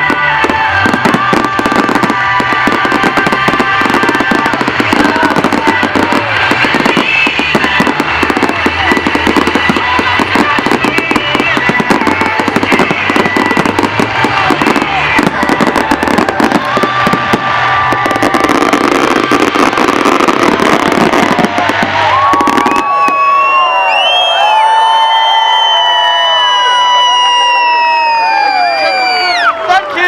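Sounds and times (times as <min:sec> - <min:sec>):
fireworks cracks and pops: 0:00.0 - 0:28.6
music: 0:00.0 - 0:29.6
crowd whooping and cheering: 0:00.0 - 0:30.0.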